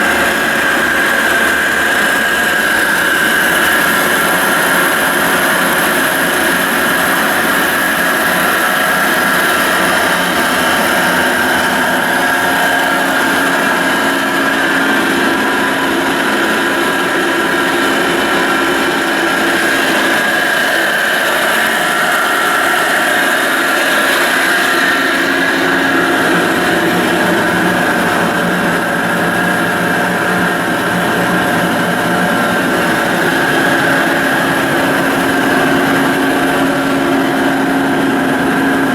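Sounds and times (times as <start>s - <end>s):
drill press mechanical drone: 0.0s - 38.9s.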